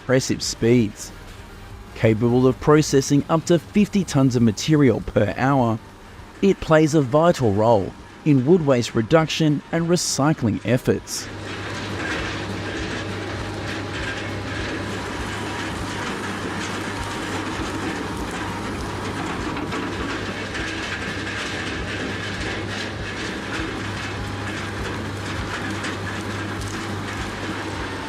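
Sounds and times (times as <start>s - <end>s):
wood shredder engine drone: 0.0s - 28.0s.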